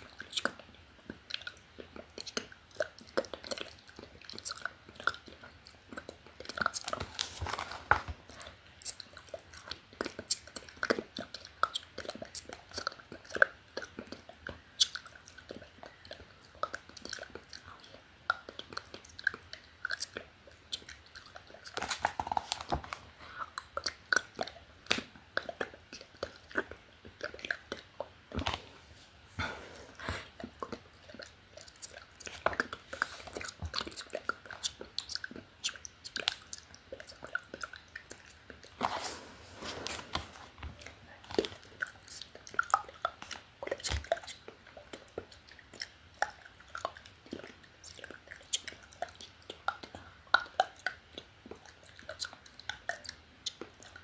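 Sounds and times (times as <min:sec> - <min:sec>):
wet lip and tongue clicks: 0:00.0 - 0:07.2, 0:08.3 - 0:28.6, 0:30.0 - 0:38.8, 0:40.8 - 0:54.0.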